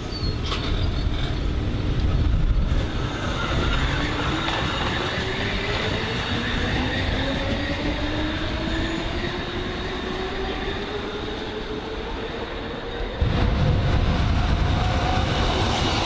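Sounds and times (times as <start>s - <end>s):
train wheels rumbling: 0.2s - 16.0s.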